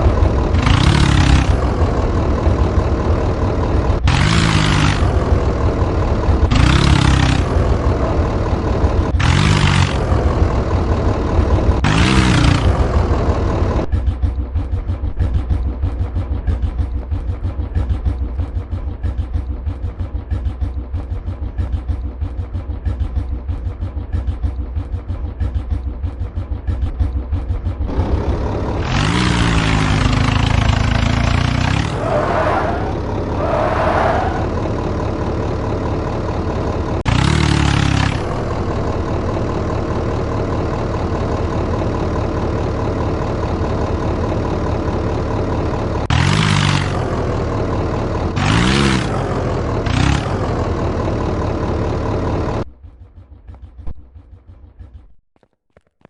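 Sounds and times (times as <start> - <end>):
tractor engine revving: 0.0 - 55.1.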